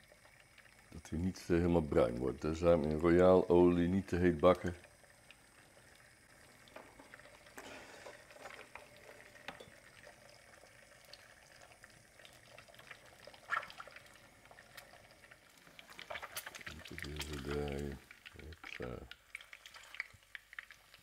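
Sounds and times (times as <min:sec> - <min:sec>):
egg sizzling in oil: 0:00.0 - 0:21.0.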